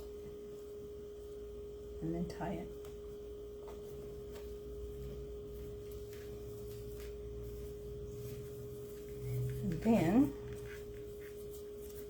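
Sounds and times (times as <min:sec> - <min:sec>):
steady single-pitched hum: 0:00.0 - 0:12.0.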